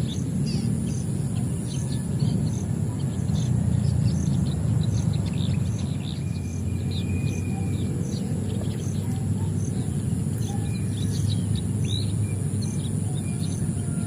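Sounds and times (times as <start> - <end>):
birds chirping: 0.0 - 14.0
drawn-out bird whistle: 0.0 - 14.0
high insect drone: 0.0 - 14.0.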